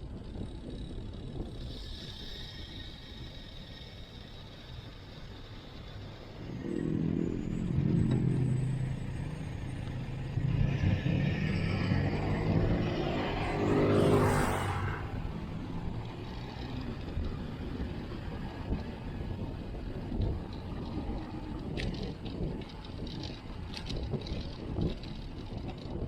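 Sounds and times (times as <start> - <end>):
vehicles passing on road: 0.0 - 26.0.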